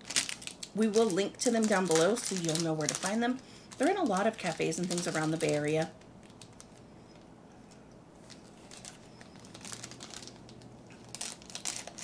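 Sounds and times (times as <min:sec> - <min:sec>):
low room hum: 0:00.0 - 0:12.0
plastic wrapper crinkling: 0:00.0 - 0:12.0.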